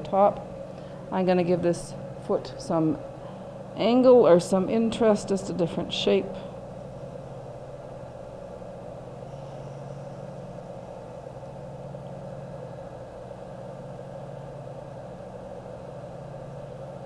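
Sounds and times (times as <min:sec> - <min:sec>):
potter's wheel motor hum: 0:00.0 - 0:17.0.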